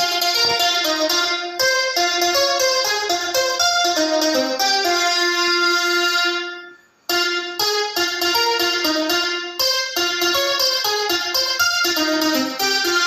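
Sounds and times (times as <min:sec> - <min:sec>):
electric piano melody: 0:00.0 - 0:13.0.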